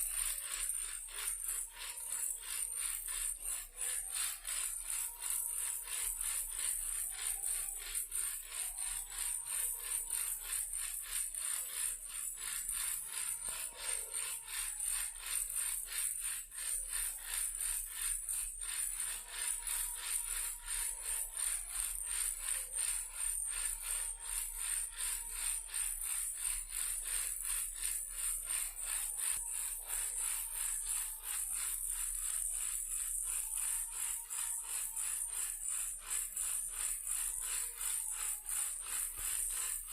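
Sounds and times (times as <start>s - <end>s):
toy rattle shaken: 0.0s - 39.9s.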